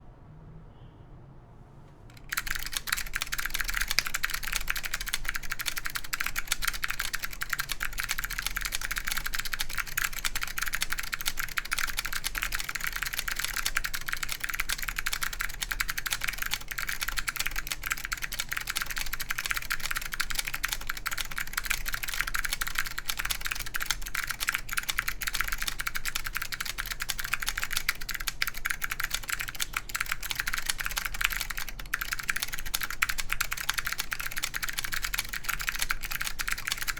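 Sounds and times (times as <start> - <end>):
mechanical keyboard typing: 2.1 - 36.9.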